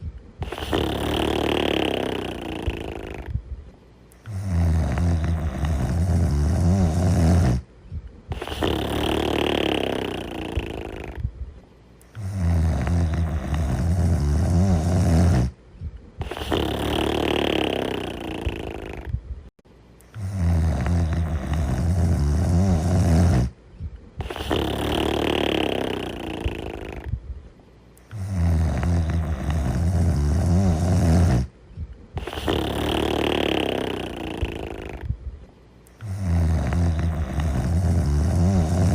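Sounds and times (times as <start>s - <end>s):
person snoring: 0.4s - 3.4s, 4.2s - 7.7s, 8.3s - 11.3s, 12.1s - 15.6s, 16.2s - 19.2s, 20.1s - 23.6s, 24.2s - 27.2s, 28.0s - 31.5s, 32.2s - 35.2s, 35.9s - 38.9s.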